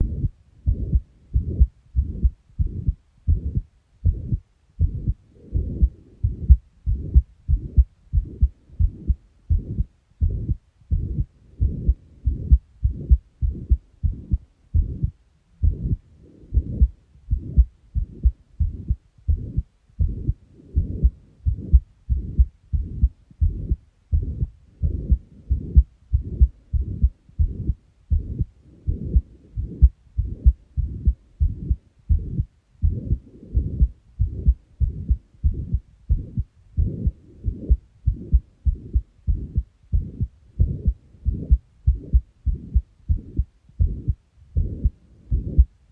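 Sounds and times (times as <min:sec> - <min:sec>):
heartbeat with murmur: 0:00.0 - 0:45.8.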